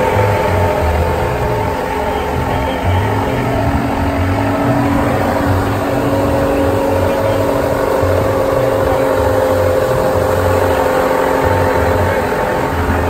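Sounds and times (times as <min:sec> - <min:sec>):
boat engine droning: 0:00.0 - 0:13.0
churning wake water: 0:00.0 - 0:13.0
wind: 0:00.0 - 0:13.0.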